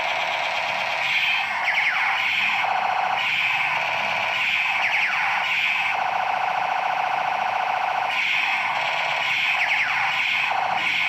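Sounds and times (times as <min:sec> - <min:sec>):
falling laser zap: 0:00.0 - 0:11.0
two-tone electronic warble: 0:00.0 - 0:11.0.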